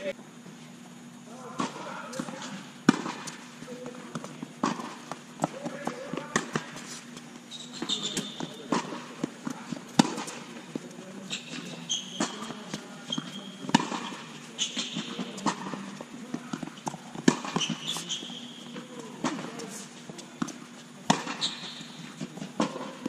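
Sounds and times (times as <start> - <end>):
shoes squeaking on court: 1.1 - 23.0
tennis ball bouncing: 1.6 - 6.9, 7.8 - 23.0
tennis racket hitting ball: 1.6 - 7.0, 7.9 - 23.0.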